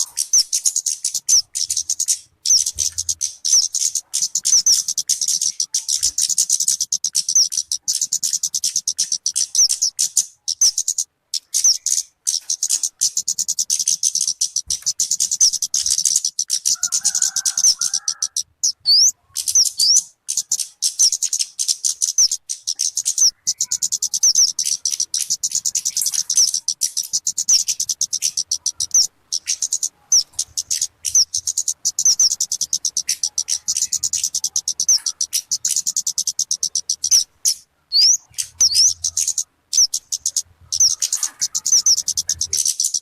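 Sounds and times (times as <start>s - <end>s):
bird singing high chirps: 0.0s - 43.0s.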